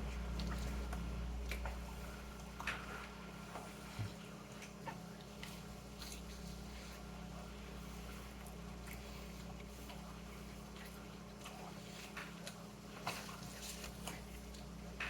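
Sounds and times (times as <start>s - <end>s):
electrical room hum: 0.0s - 15.0s.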